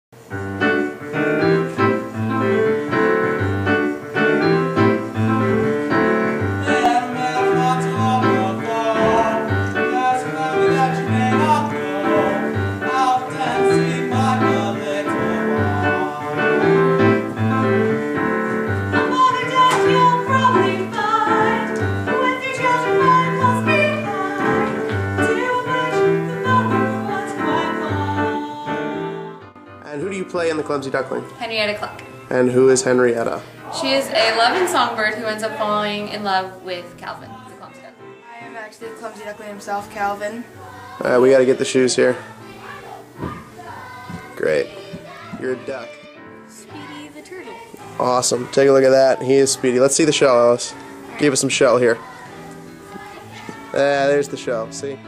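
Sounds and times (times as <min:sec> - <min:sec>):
piano-led music: 0:00.2 - 0:55.0.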